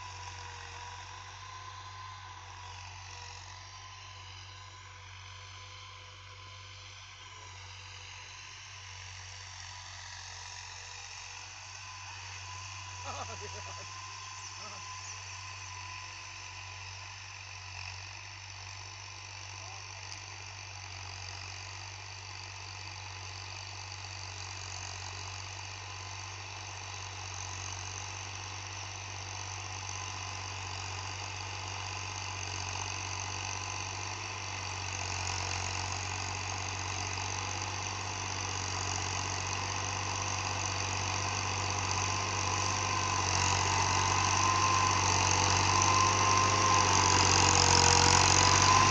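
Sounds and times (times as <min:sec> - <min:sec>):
tractor diesel engine running: 0:00.0 - 0:22.2, 0:25.5 - 0:48.9.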